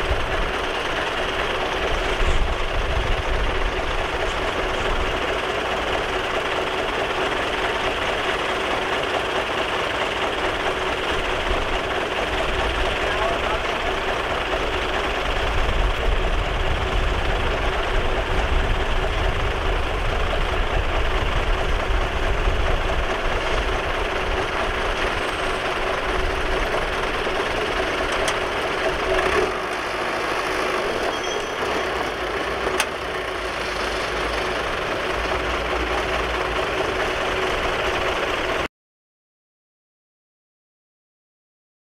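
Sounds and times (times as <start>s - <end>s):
heavy diesel engines rumbling: 0.0s - 38.7s.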